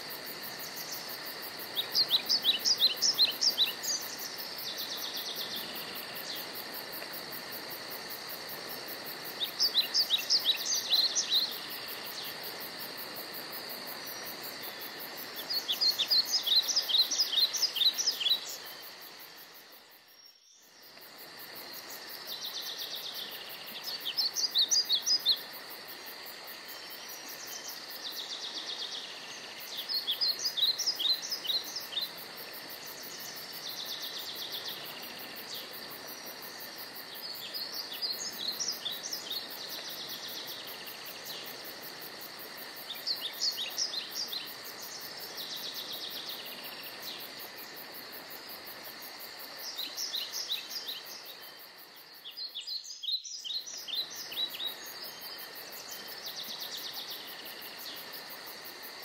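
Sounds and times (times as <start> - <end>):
songbirds singing: 0.0 - 8.4, 9.1 - 20.9, 21.6 - 41.7, 42.7 - 47.8, 49.1 - 58.3
faint hiss: 0.0 - 59.0.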